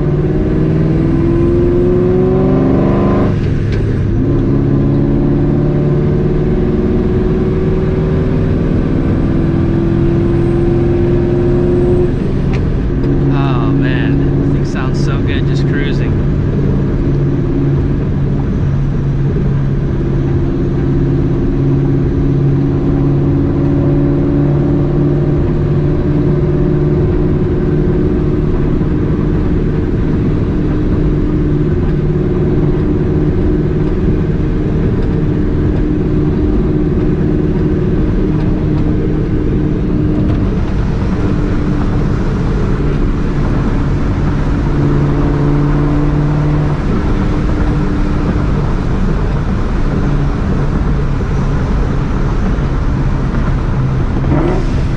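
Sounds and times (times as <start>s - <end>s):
car engine exhaust drone: 0.0s - 54.9s
road noise: 0.0s - 54.9s.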